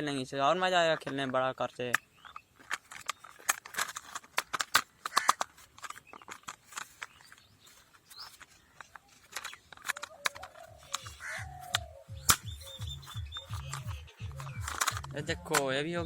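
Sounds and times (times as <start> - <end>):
plastic toy parts clicking: 0.5 - 16.0.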